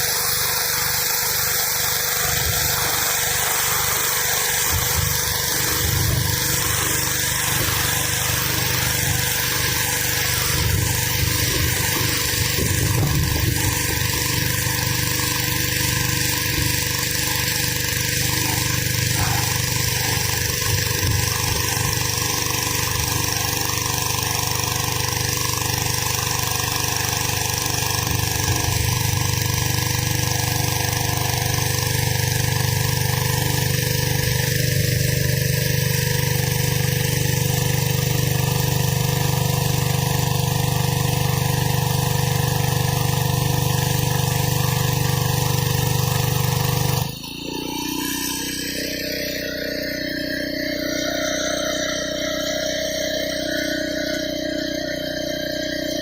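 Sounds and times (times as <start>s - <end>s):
pressure washer engine running: 0.0s - 56.0s
water spray blasting concrete: 0.0s - 56.0s.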